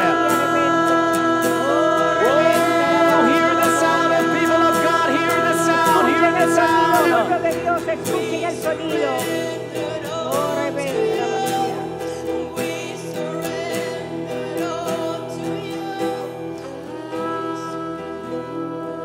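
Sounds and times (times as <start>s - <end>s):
acoustic guitar: 0.0s - 19.0s
person singing: 0.0s - 19.0s
slow worship music: 0.0s - 19.0s.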